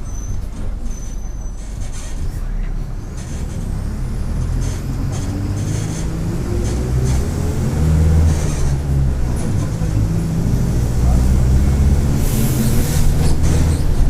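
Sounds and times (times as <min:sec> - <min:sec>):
bus diesel engine pulling: 0:00.0 - 0:14.0.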